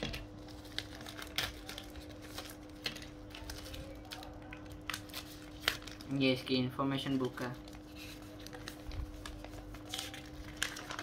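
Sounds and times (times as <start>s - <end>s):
paper and plastic rustling: 0.0s - 11.0s.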